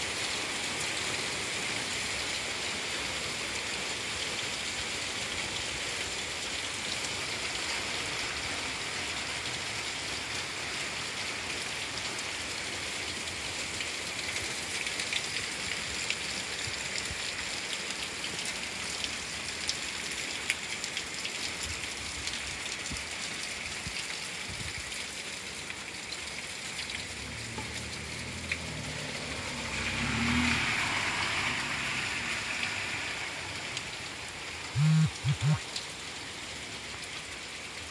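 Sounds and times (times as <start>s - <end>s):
heavy rain on road: 0.0s - 34.8s, 35.6s - 37.9s.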